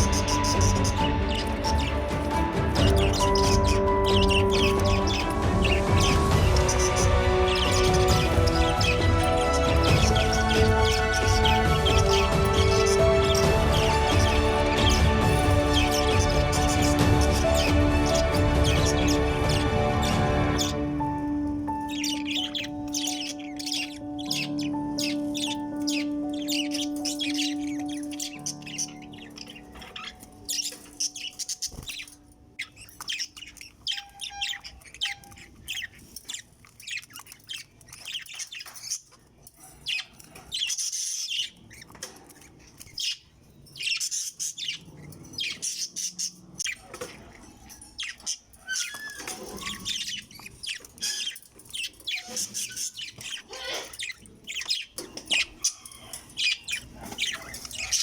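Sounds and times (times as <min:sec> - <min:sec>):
lovebirds chirping: 0:00.0 - 0:58.0.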